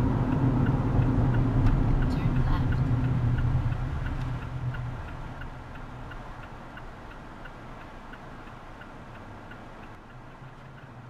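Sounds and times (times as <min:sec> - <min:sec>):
engine and road noise: 0:00.0 - 0:11.0
turn signal ticking: 0:00.0 - 0:11.0.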